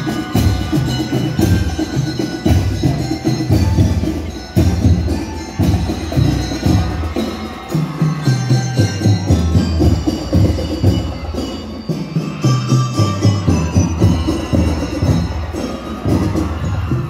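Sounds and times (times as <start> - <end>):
bell lyres ringing tune: 0.0 - 17.0
marching drums beating: 0.0 - 17.0.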